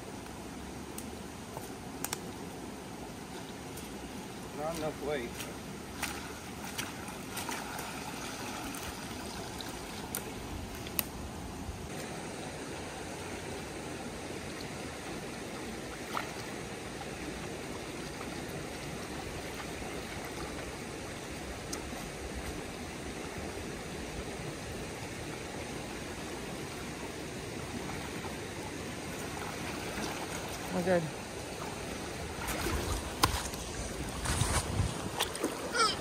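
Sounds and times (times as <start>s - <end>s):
fast-running water rushing: 3.0s - 10.9s, 11.9s - 36.0s.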